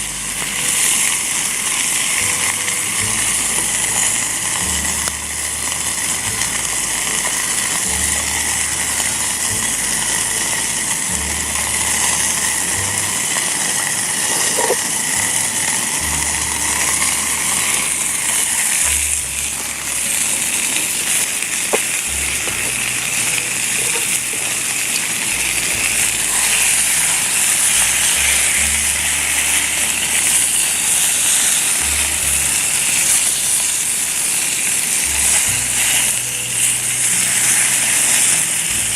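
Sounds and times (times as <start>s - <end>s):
background music with bass line: 0.0s - 38.9s
chicken sizzling in a pan: 0.0s - 38.9s.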